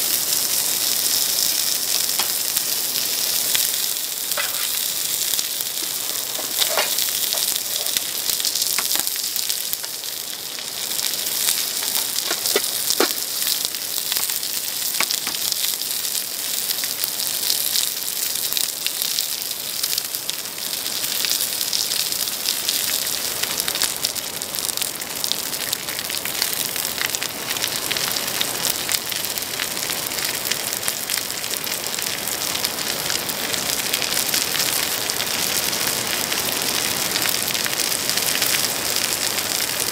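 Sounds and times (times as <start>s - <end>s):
pork sizzling on a grill pan: 0.0s - 39.9s.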